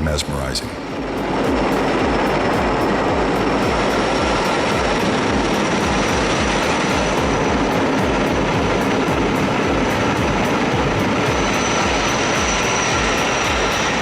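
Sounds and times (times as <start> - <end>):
helicopter rotor beat: 0.0 - 14.0
turbine whine: 0.0 - 14.0.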